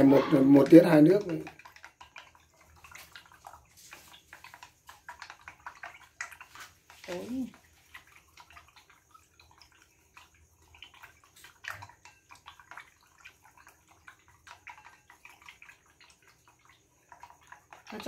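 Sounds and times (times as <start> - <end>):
liquid sloshing in bowl: 0.0 - 18.0.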